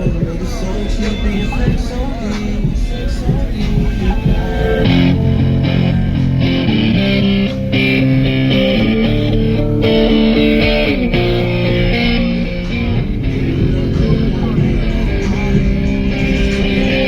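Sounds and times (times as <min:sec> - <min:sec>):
loud guitar music with heavy bass: 0:00.0 - 0:17.0.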